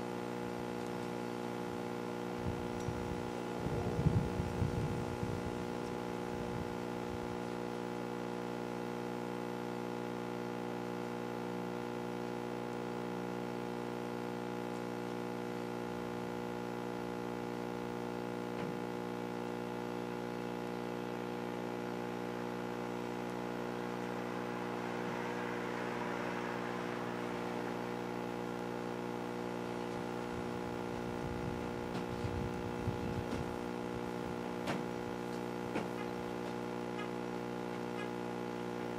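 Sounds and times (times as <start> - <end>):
hum of held tones: 0.0 - 38.9.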